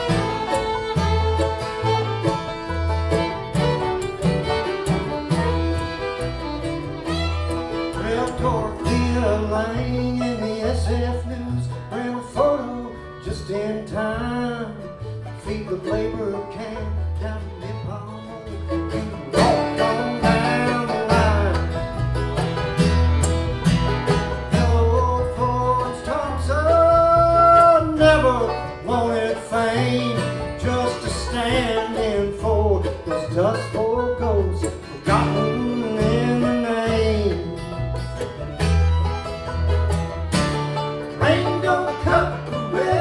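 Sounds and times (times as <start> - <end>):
steady bass line: 0.0 - 12.0, 18.4 - 43.0
bluegrass band playing: 0.0 - 43.0
picked banjo: 0.0 - 43.0.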